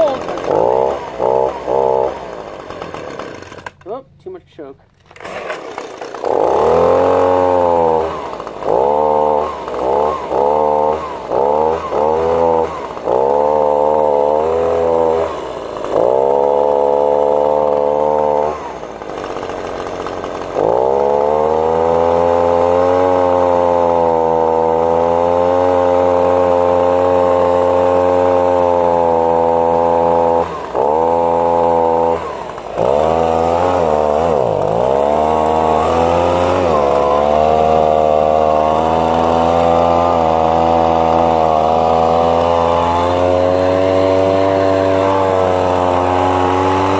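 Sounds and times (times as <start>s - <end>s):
leaf blower engine revving: 0.0s - 46.9s.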